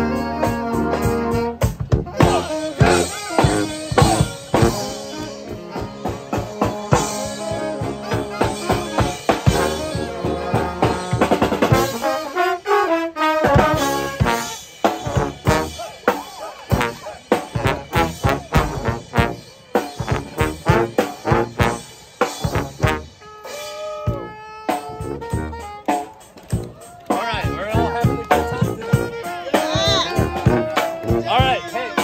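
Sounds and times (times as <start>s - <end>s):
brass band playing jazz: 0.0s - 32.0s.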